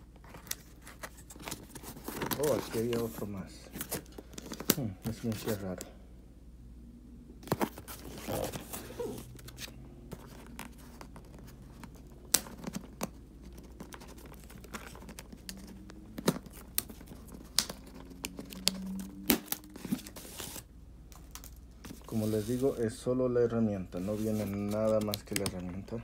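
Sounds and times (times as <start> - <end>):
cardboard scraping and crinkling: 0.2 - 5.8, 7.4 - 20.7, 21.8 - 23.0, 23.9 - 25.4.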